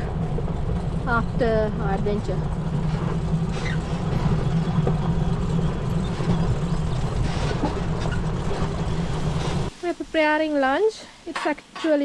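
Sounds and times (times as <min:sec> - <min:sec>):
utility vehicle rumbling: 0:00.0 - 0:09.8.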